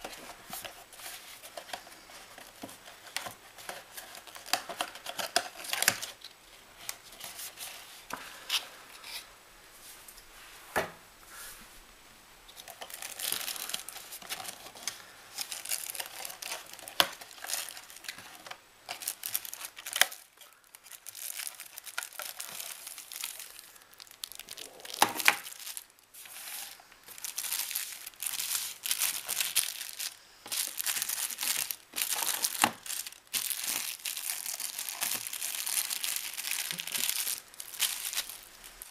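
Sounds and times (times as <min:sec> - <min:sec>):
cardboard packaging being opened: 0:00.0 - 0:06.2, 0:12.6 - 0:38.9
plastic bag crinkling: 0:00.0 - 0:06.2, 0:12.6 - 0:38.9.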